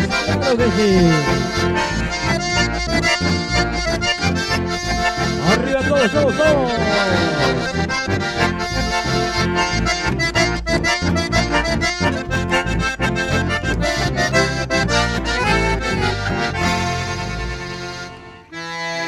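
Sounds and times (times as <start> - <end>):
acoustic guitar: 0.0 - 18.8
accordion melody: 0.0 - 19.0
electric bass: 0.0 - 19.0.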